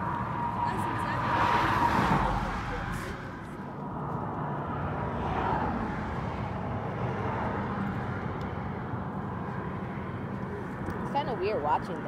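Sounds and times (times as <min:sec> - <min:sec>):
vehicle passing by: 0:00.0 - 0:10.8
traffic rumble: 0:00.0 - 0:12.0.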